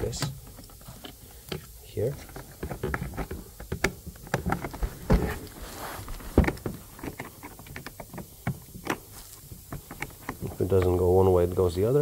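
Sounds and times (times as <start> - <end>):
plastic parts clicking and knocking: 0.0 - 5.6, 6.3 - 11.6.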